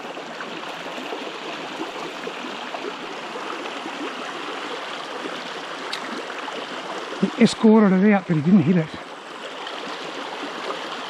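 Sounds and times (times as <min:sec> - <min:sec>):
creek water rushing over stones: 0:00.0 - 0:11.0.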